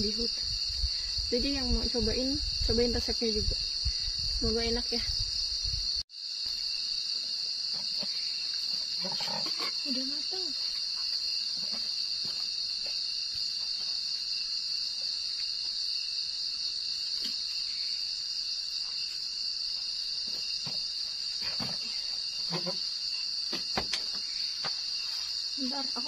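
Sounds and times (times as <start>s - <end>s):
night insects chirping: 0.0s - 26.0s.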